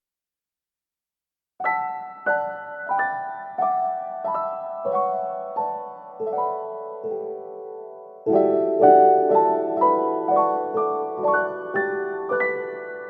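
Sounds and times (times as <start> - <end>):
slow piano melody: 1.6 - 13.0.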